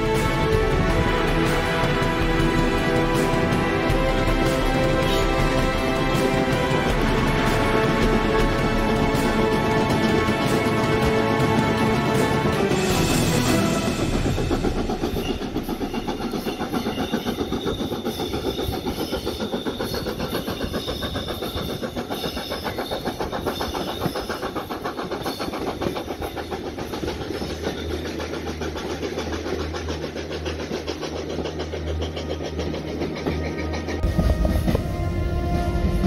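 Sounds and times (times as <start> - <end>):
steam train pulsing rush: 0.0 - 36.0.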